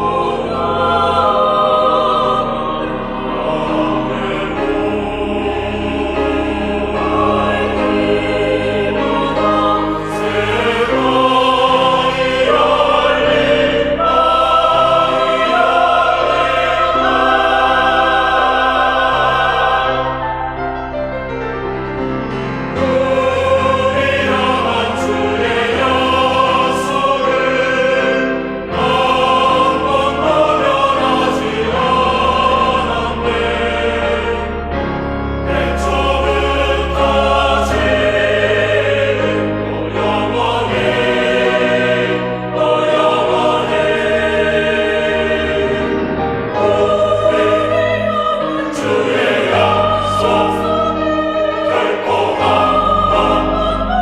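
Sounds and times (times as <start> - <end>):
mixed choir singing: 0.0 - 54.0
organ low notes: 0.0 - 54.0
piano: 0.0 - 54.0.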